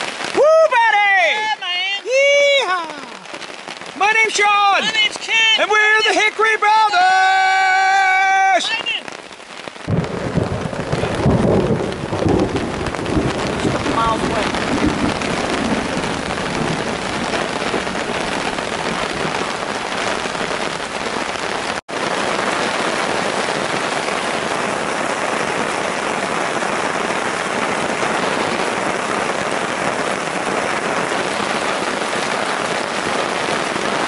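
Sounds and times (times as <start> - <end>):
heavy rain on a tarp: 0.0 - 34.0.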